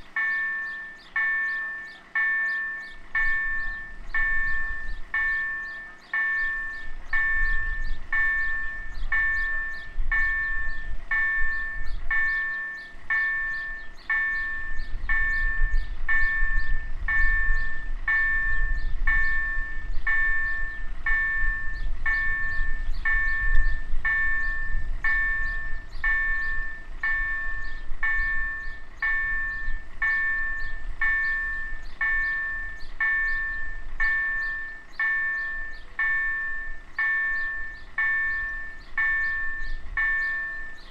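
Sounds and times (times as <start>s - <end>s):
level-crossing warning bell ringing: 0.0s - 40.9s.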